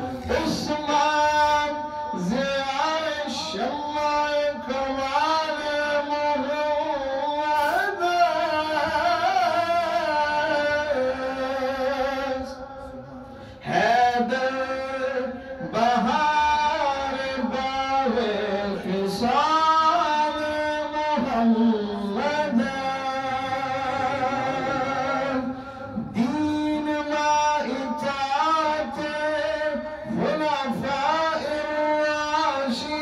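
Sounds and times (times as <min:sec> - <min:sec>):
man singing into a microphone: 0:00.0 - 0:33.0.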